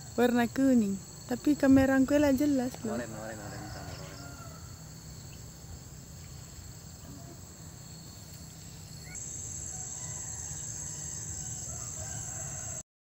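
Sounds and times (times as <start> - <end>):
high-pitched insect chorus: 0.0 - 12.8.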